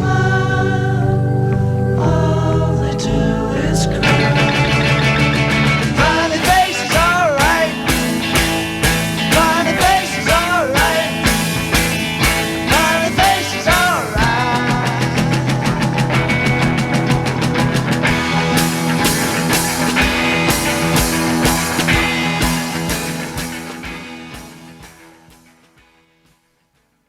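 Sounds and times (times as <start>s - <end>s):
psychedelic rock band playing: 0.0s - 26.0s.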